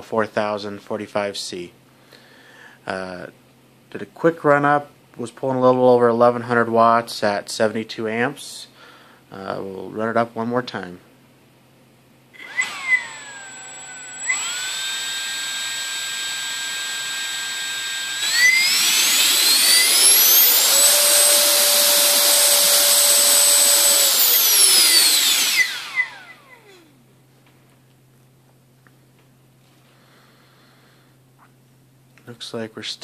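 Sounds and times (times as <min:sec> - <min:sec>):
electric ducted fan whine: 0:00.0 - 0:33.0.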